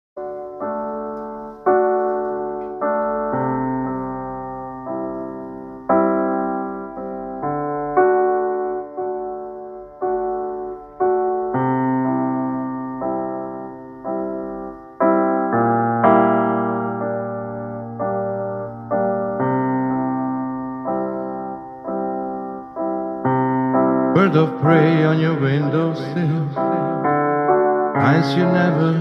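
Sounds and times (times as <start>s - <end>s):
piano chords ringing: 0.2s - 29.0s.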